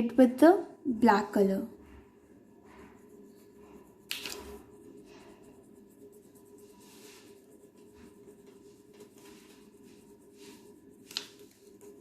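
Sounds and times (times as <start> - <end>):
crayon rubbing on paper: 1.8 - 12.0.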